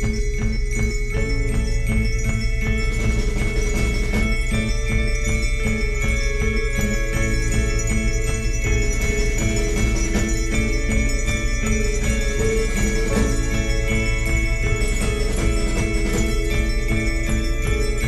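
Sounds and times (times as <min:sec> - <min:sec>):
bell-like tones over a beat: 0:00.0 - 0:18.0.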